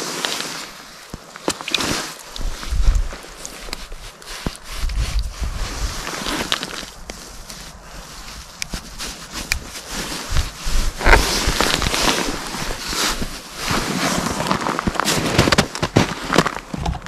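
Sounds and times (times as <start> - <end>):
rustling handling noise: 0.0 - 17.0.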